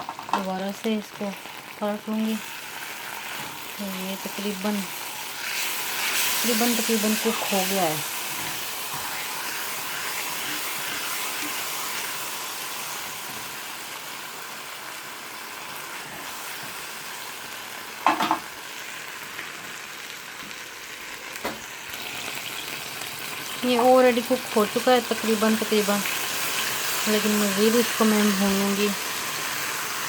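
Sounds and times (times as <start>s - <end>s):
chicken sizzling in a frying pan: 0.0s - 30.0s.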